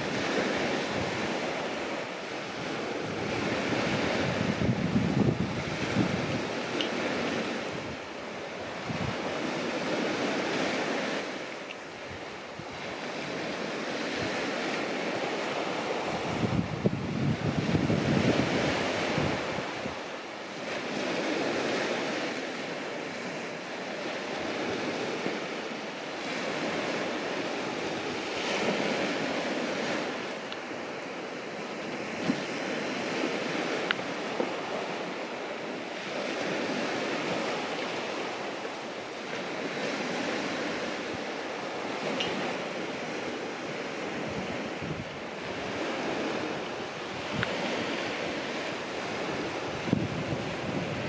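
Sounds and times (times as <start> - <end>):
sea waves breaking: 0.0 - 51.0
wind on microphone: 0.0 - 51.0.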